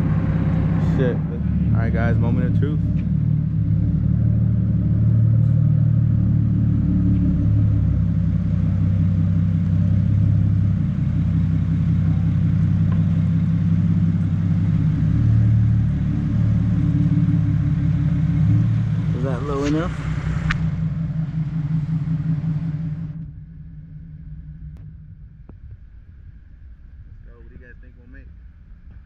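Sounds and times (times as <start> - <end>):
car engine running steadily: 0.0 - 29.0.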